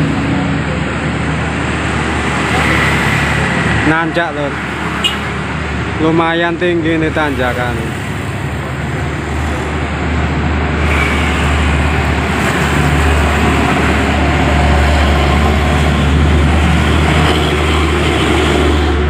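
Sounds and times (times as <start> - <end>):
diesel truck engine drone: 0.0 - 19.0
motorcycles and cars passing: 0.0 - 19.0.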